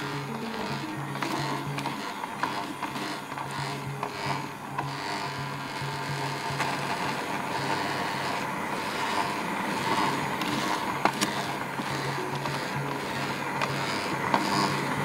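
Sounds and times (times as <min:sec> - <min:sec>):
kitchen mixer motor humming: 0:00.0 - 0:15.0.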